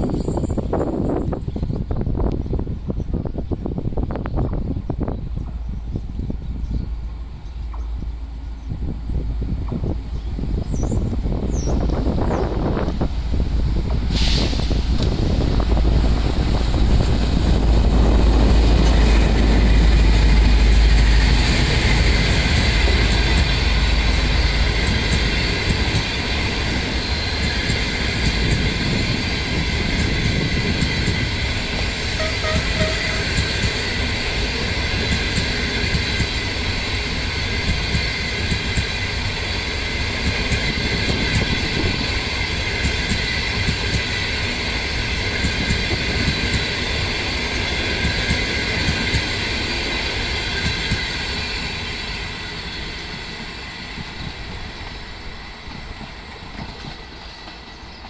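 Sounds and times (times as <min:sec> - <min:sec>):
diesel locomotive rumble: 0:00.0 - 0:57.2
train coaches rumbling past: 0:00.0 - 0:58.0.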